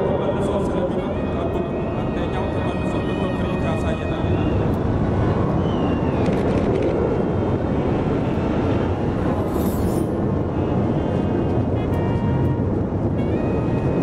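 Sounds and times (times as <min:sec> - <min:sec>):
jet aircraft flying over: 0:00.0 - 0:14.0.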